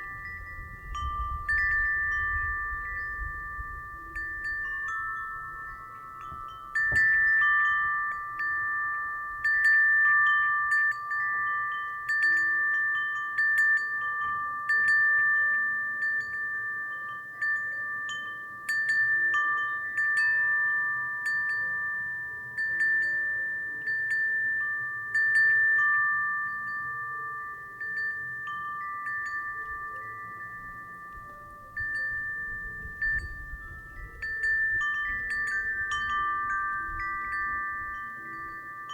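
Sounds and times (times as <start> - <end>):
wind chime ringing: 0.0 - 38.9.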